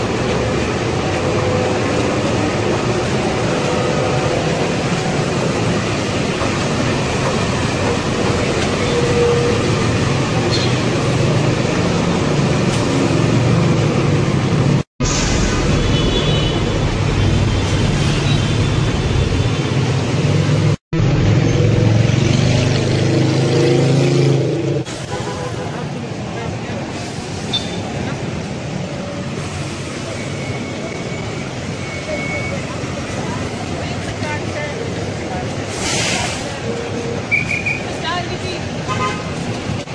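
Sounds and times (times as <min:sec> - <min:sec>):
rumble of motor traffic: 0:00.0 - 0:39.9.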